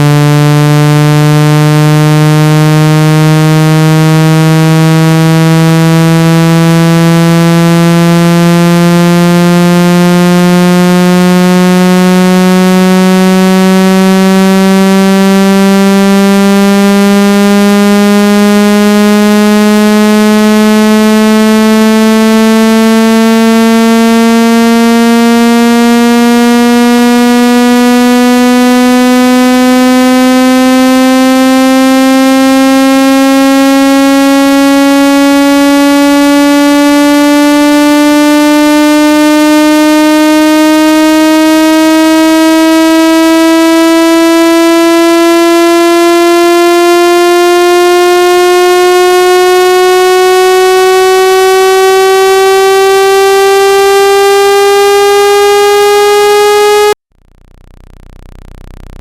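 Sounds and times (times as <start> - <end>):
buzzy tone rising in pitch: 0.0 - 59.0.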